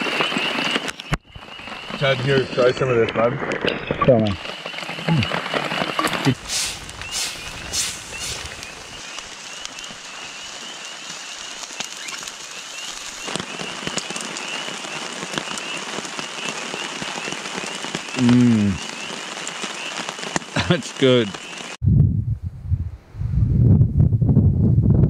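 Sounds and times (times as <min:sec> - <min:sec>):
rain falling: 0:00.0 - 0:21.8.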